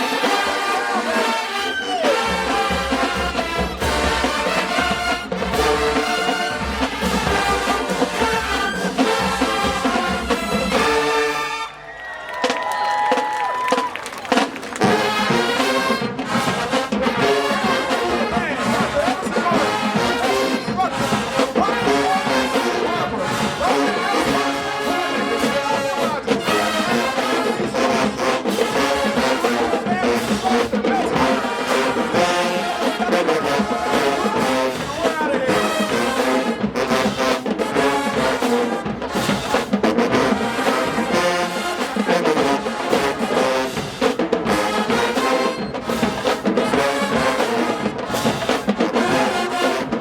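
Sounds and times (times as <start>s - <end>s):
brass band playing: 0.0s - 50.0s
drums: 0.0s - 50.0s.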